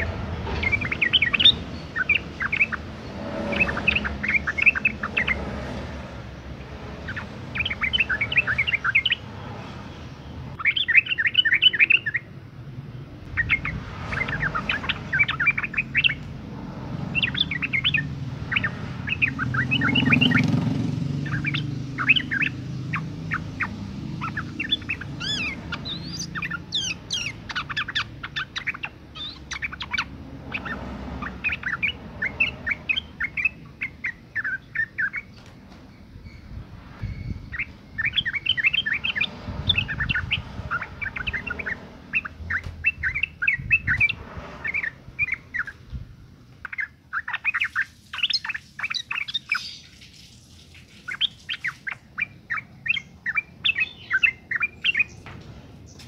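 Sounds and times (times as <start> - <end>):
bird chirping calls: 0.0 - 56.0.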